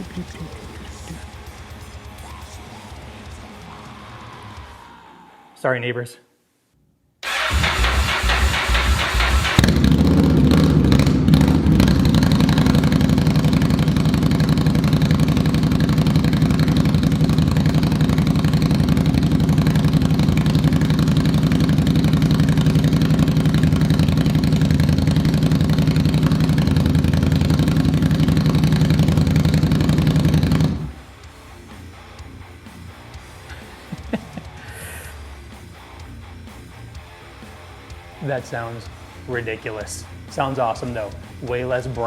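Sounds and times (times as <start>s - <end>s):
motorcycle engine idling: 7.2s - 42.0s.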